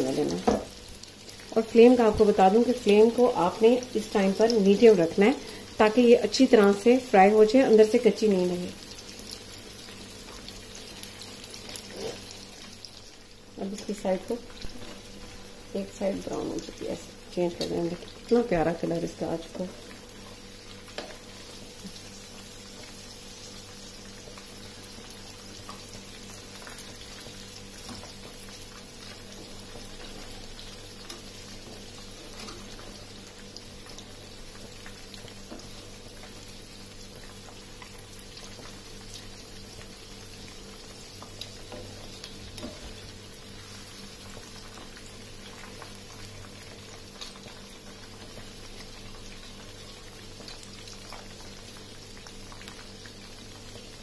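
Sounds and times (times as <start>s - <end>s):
fish frying in hot oil: 0.0s - 54.0s.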